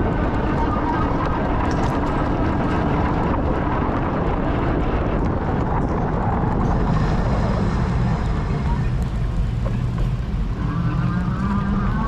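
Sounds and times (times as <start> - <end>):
traffic: 0.0 - 12.0
wind on microphone: 0.0 - 12.0.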